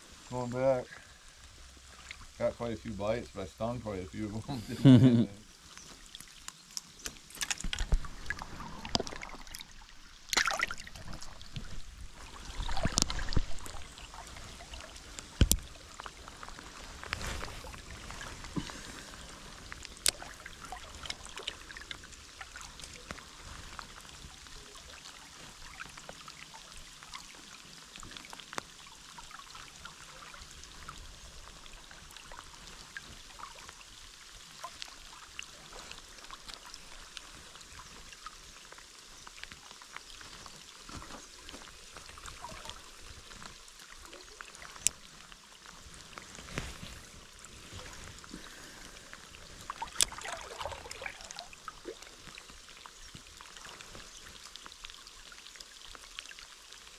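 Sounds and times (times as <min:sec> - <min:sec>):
creek water trickling: 0:00.0 - 0:56.9.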